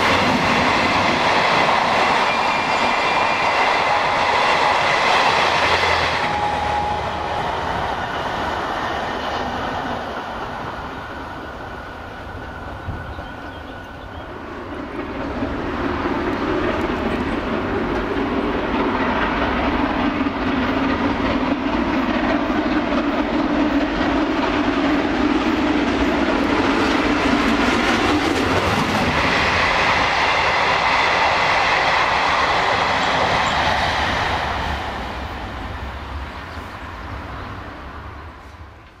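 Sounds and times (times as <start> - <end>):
steam locomotive passing at speed: 0.0 - 39.0.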